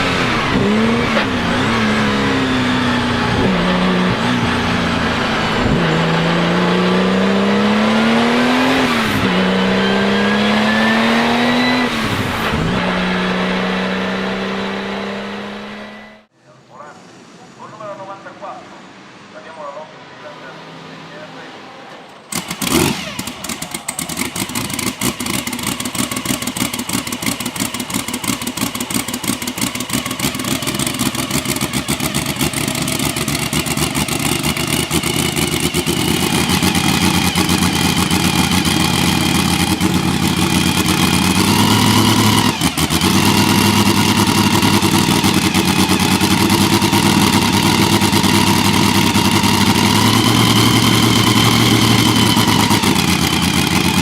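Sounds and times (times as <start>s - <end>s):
racing engine running: 0.0s - 16.3s, 20.3s - 54.0s.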